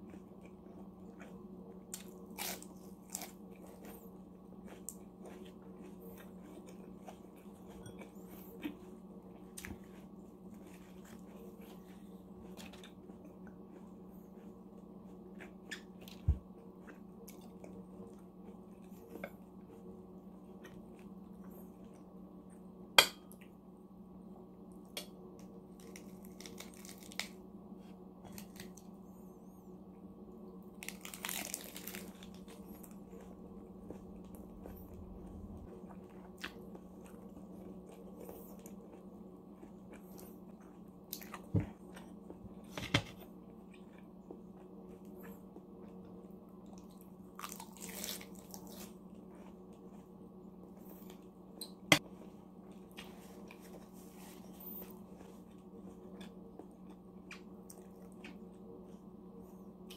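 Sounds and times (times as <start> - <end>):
lettuce crunching and chewing: 0.0 - 22.1, 25.4 - 29.0, 30.7 - 59.9
steady low hum: 0.0 - 59.9.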